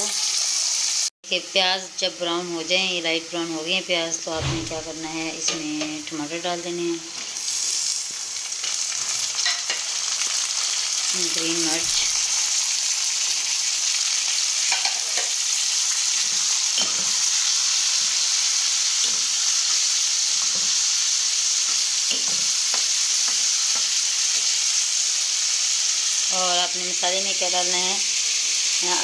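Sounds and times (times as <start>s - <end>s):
vegetables sizzling in hot oil: 0.0s - 29.0s.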